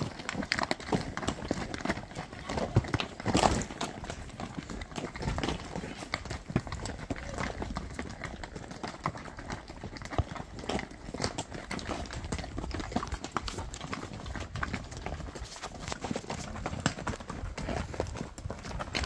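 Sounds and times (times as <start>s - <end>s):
horse hooves clopping on stony trail: 0.0s - 19.0s.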